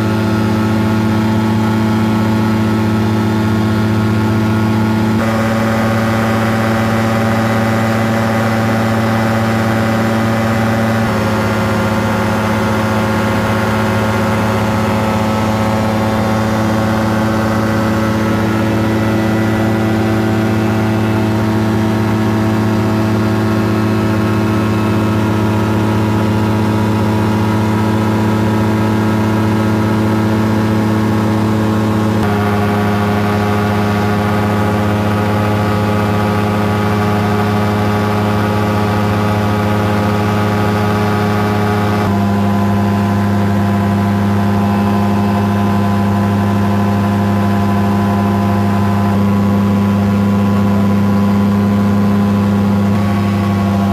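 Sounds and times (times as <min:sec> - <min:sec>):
aircraft engine and propeller droning: 0:00.0 - 0:06.8, 0:11.1 - 0:38.2, 0:42.3 - 0:53.9.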